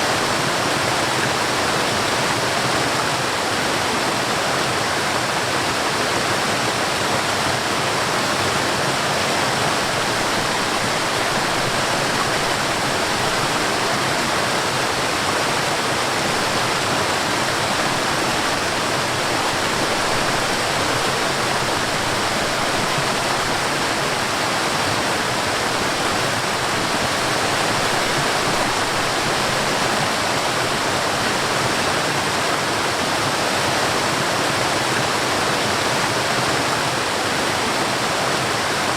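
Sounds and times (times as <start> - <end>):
stream and waterfall rushing: 0.0 - 38.9.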